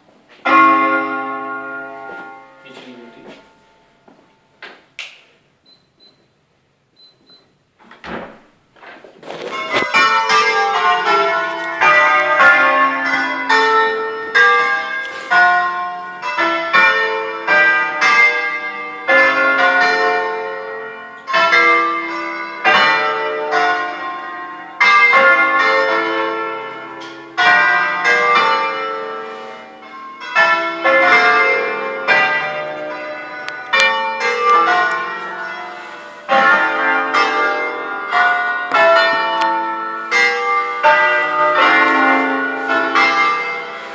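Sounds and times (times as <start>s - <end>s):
church bells ringing: 0.0s - 4.6s, 9.2s - 43.9s.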